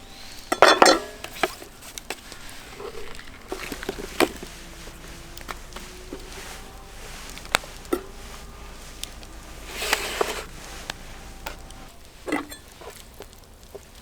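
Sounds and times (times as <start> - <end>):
rustling clatter: 0.0 - 13.1.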